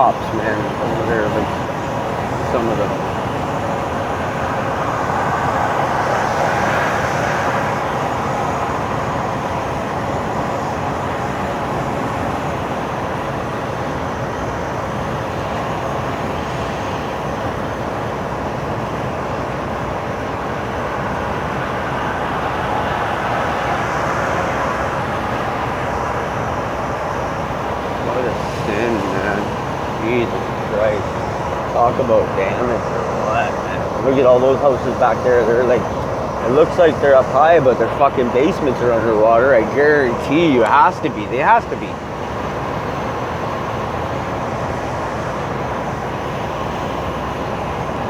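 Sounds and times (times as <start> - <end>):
vehicle road noise: 0.0 - 48.0.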